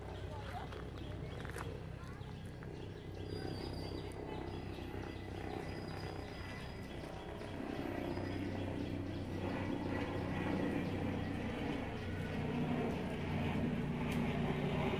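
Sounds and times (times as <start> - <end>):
faint high bird chirps: 0.0 - 12.3
steady low hum: 0.0 - 14.9.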